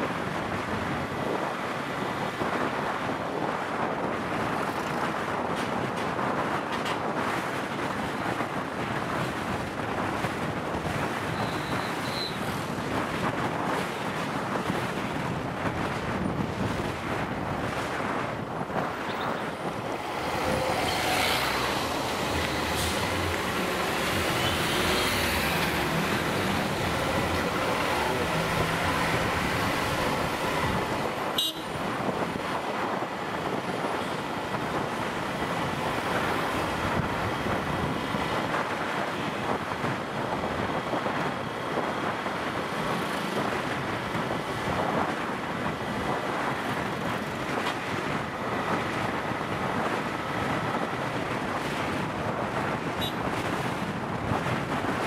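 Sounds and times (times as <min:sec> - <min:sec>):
tyres on wet road: 0:00.0 - 0:55.0
wind noise on microphone: 0:00.0 - 0:55.0.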